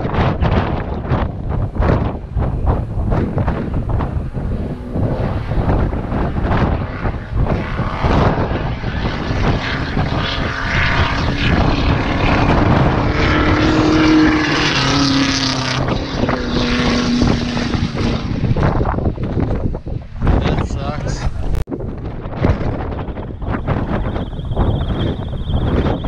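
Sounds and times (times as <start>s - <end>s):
race car engine at hard throttle: 0.0s - 26.0s
wind buffeting microphone: 0.0s - 26.0s.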